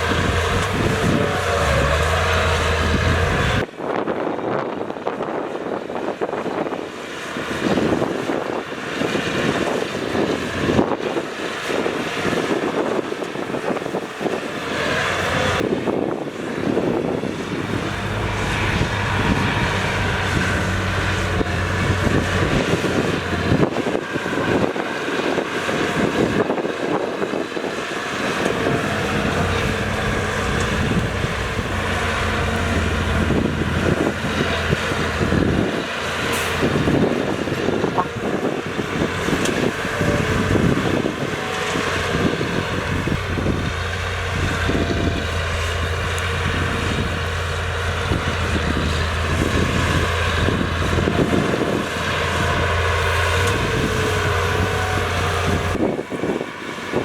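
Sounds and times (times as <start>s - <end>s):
diesel machinery engine rumble: 0.0s - 57.0s.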